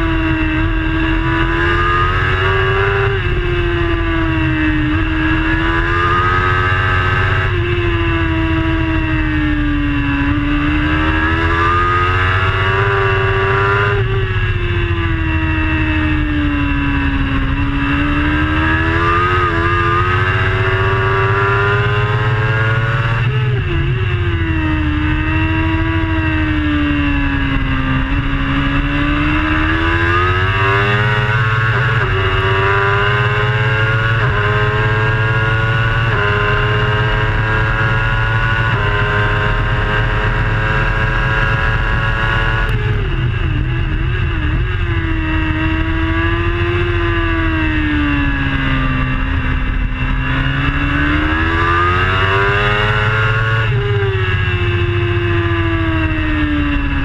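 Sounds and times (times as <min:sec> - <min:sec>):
motorcycle engine revving: 0:00.0 - 0:57.0
wind and road rush: 0:00.0 - 0:57.0.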